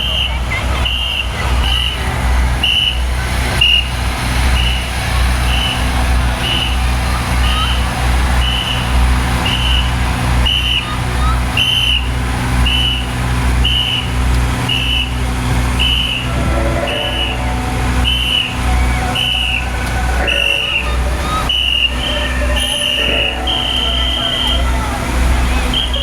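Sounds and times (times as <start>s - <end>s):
truck engine running: 0.0s - 26.0s
vehicle reversing beeper: 0.0s - 26.0s.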